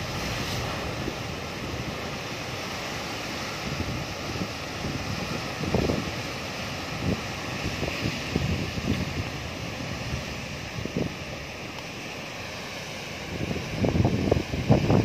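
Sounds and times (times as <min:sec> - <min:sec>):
surf breaking against rocks: 0:00.0 - 0:15.0
wind gusting on microphone: 0:00.0 - 0:15.0.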